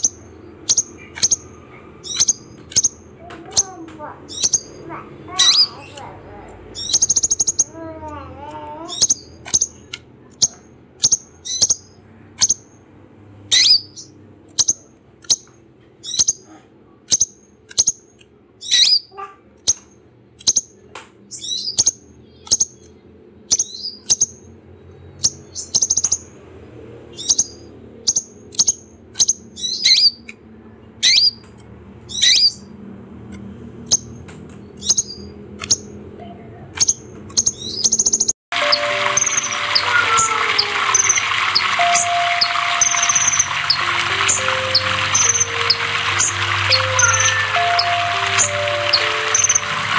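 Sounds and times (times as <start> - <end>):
bird chirping: 0.0 - 26.4, 27.1 - 32.8, 33.4 - 36.0, 36.6 - 49.9.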